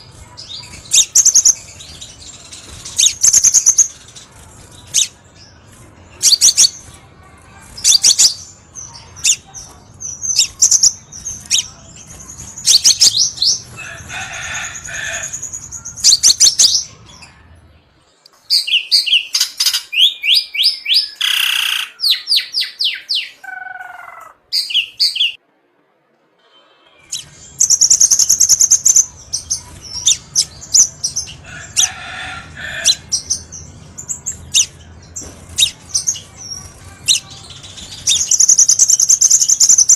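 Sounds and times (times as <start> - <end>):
bird chirping and trilling: 0.0 - 17.5, 18.5 - 25.4, 27.0 - 39.9.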